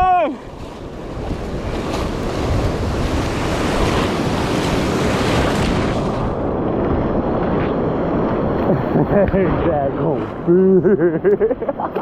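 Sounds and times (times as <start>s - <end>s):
wind buffeting microphone: 0.0s - 11.5s
ocean surf breaking: 0.0s - 12.0s.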